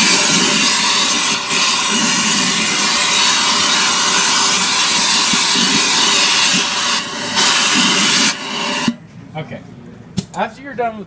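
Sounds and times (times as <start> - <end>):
shop vacuum running: 0.0 - 9.0.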